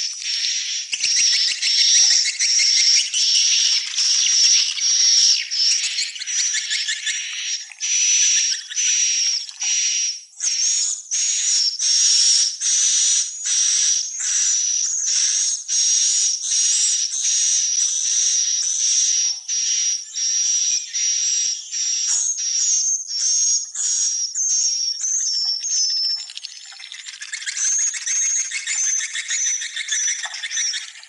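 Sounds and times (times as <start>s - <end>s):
swiftlets twittering and chirping: 0.0s - 31.0s.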